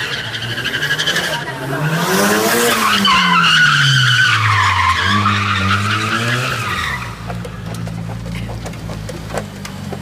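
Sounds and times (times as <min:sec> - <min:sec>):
tyres squealing on asphalt: 0:00.0 - 0:09.6
car engine revving: 0:00.0 - 0:10.0.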